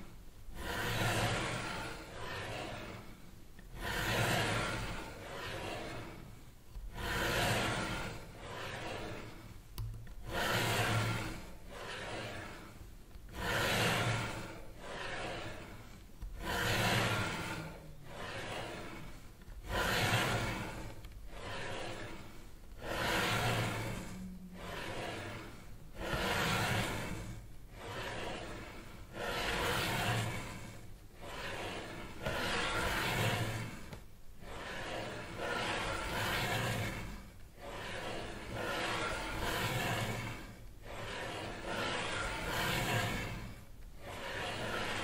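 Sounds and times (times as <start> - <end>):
slow even breathing: 0.0 - 45.0.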